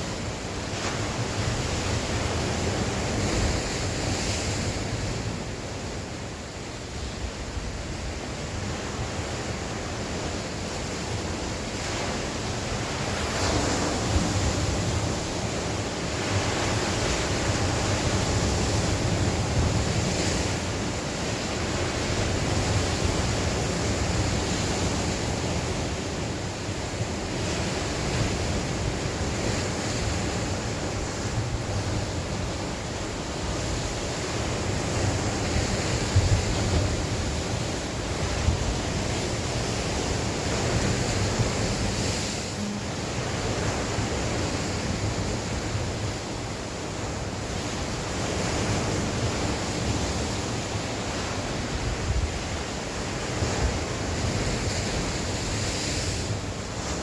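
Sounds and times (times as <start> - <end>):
sea waves breaking on shore: 0.0 - 57.0
wind buffeting the microphone: 0.0 - 57.0.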